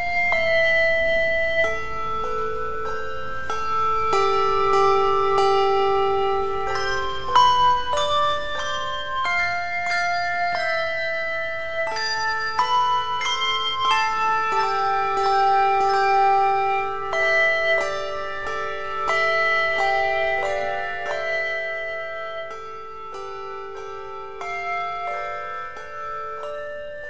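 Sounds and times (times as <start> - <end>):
handbells ringing in chords: 0.0 - 27.0
long-held low bell note: 0.0 - 27.0.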